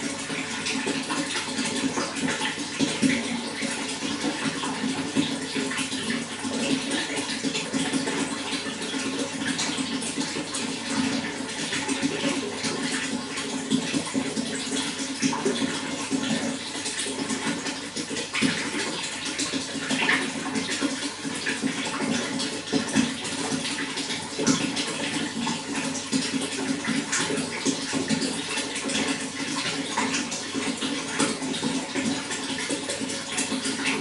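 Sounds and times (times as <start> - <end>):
running water gurgling: 0.0 - 34.0.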